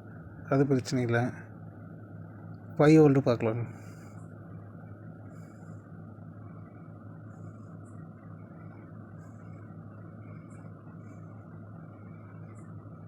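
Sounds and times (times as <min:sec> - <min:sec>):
low electrical hum: 0:00.0 - 0:13.0
noisy whir: 0:00.0 - 0:13.0.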